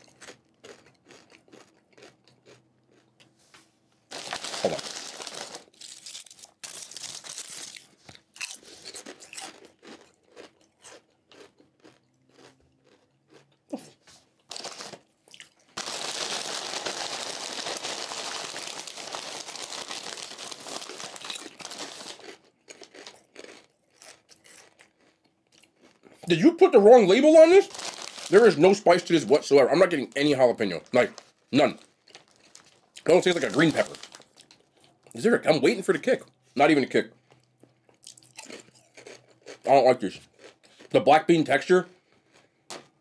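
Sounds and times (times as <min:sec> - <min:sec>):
chips crunching in mouth: 0:00.0 - 0:03.4, 0:04.1 - 0:35.2, 0:37.3 - 0:41.4.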